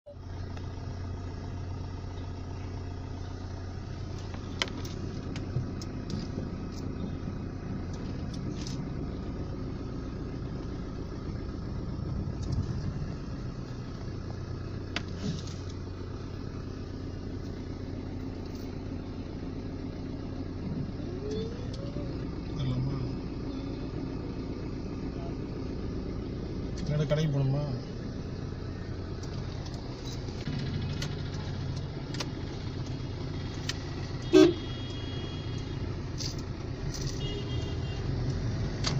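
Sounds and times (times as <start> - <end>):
car engine idling: 0.1 - 38.9.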